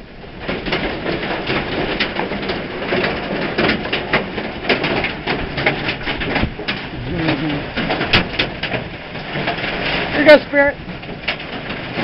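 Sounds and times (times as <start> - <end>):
crackling clicks and impacts: 0.0 - 12.0.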